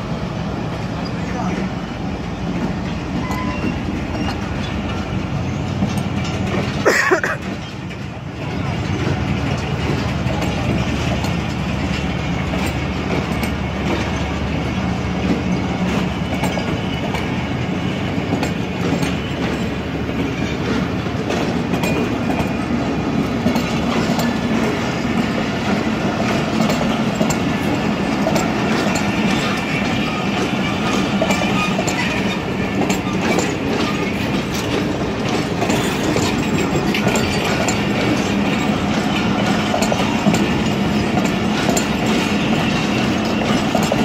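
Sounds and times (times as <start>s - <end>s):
train coaches rumbling past: 0.0s - 44.0s
wheels clattering over rail joints: 0.7s - 44.0s.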